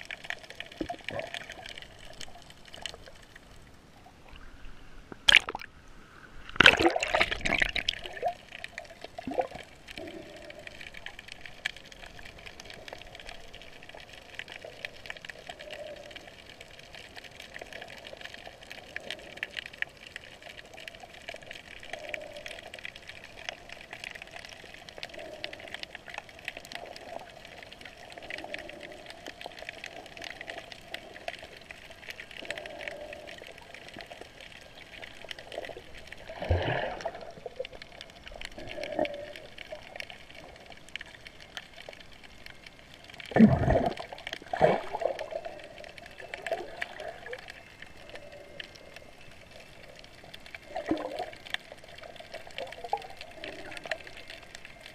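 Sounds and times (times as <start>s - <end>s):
faint underwater crackles: 0.0s - 54.9s
muffled underwater hiss: 0.0s - 54.9s.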